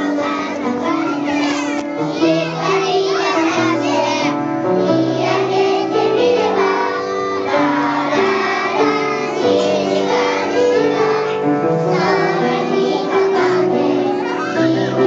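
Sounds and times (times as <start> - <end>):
children singing: 0.0 - 15.0
instrumental accompaniment: 0.0 - 15.0.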